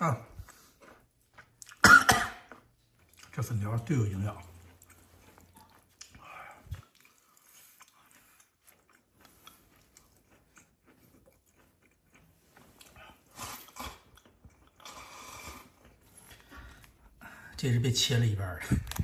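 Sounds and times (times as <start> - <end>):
chewing and biting noodles: 0.2 - 17.2.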